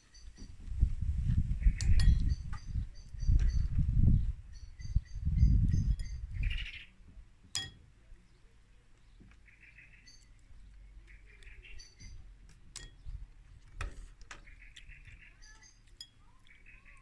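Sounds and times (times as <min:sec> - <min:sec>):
birds chirping: 0:00.0 - 0:00.8, 0:01.4 - 0:17.0.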